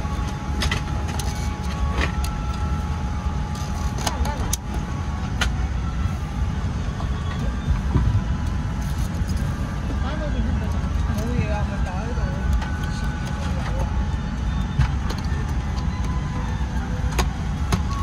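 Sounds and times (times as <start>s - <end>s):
cabin air-conditioning rumble: 0.0s - 18.0s
faint passenger voices: 0.0s - 18.0s.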